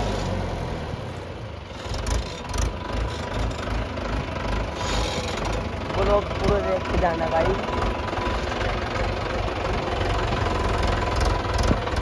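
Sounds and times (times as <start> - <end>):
tractor engine chugging: 1.3 - 12.0.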